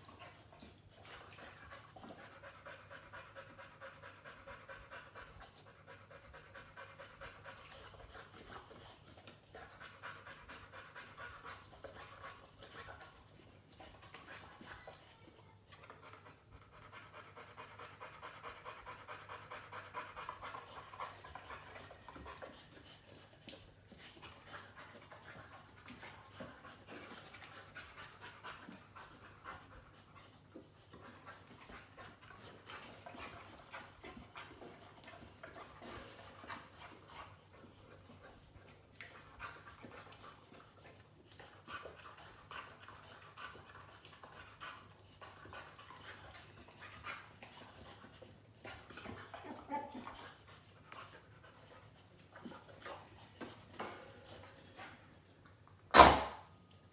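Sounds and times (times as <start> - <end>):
dog panting: 0.0 - 55.9.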